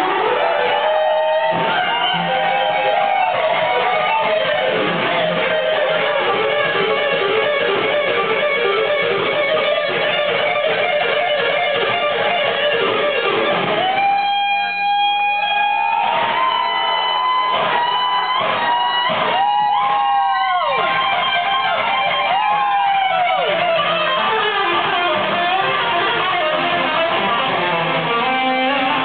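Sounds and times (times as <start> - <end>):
electric guitar lead line: 0.0 - 29.0.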